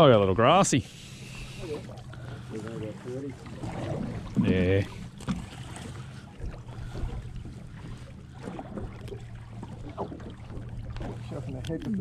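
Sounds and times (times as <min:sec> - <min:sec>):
faint water splashes: 0:00.0 - 0:12.0
outboard motor idling: 0:00.0 - 0:12.0.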